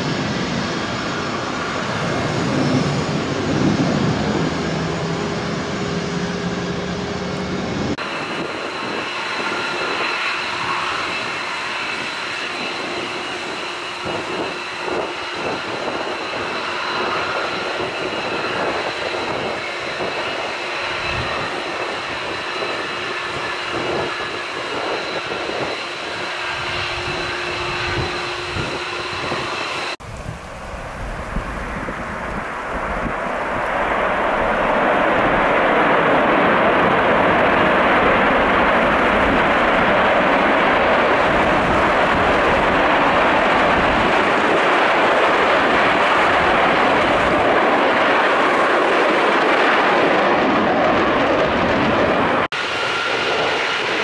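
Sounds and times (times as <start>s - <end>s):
high-pitched jet engine whine: 0.0s - 54.0s
jet engine rumble: 0.0s - 54.0s.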